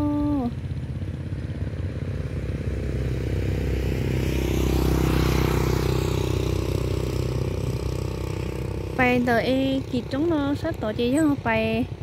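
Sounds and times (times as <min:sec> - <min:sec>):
motorbike passing: 0:00.0 - 0:12.0.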